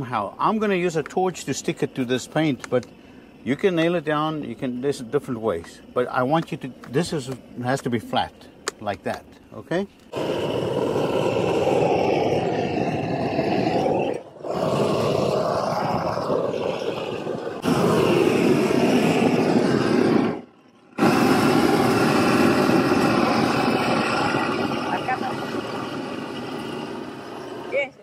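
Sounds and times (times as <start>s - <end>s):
torch flame rushing: 0.0s - 8.4s, 10.1s - 28.0s.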